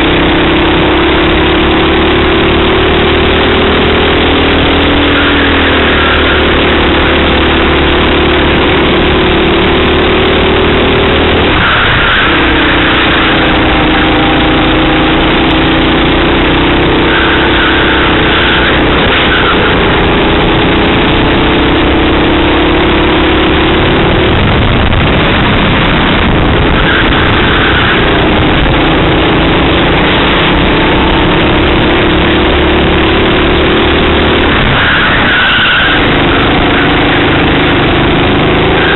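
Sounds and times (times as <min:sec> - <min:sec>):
kart engine: 0:00.0 - 0:38.9.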